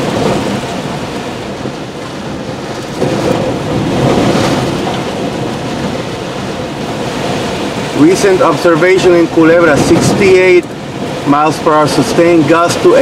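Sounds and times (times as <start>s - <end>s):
strong wind gusting: 0.0s - 13.0s
wind-driven rain: 0.0s - 13.0s.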